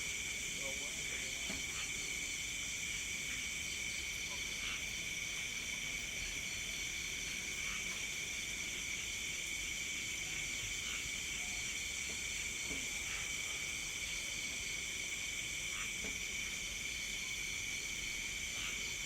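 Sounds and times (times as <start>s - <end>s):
crickets and insects trilling: 0.0s - 19.0s.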